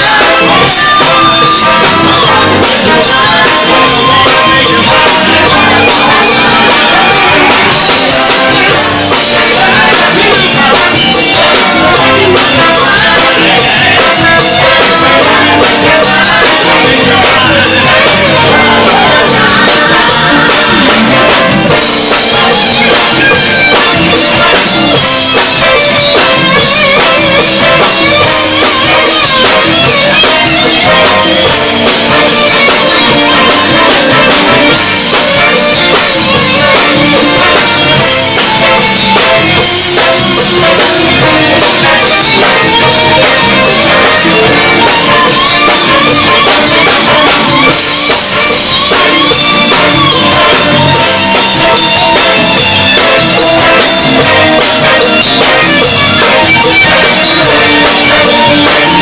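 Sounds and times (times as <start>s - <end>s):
soul-funk band playing live: 0.0s - 59.0s
voices singing: 0.0s - 59.0s.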